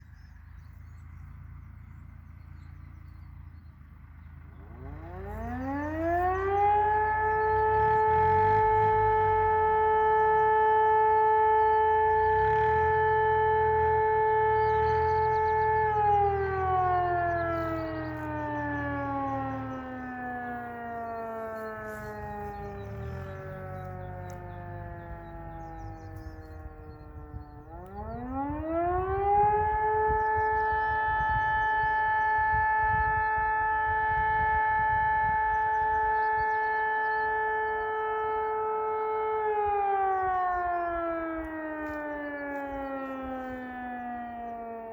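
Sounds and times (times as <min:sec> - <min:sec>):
civil defence siren: 0:00.0 - 0:44.9.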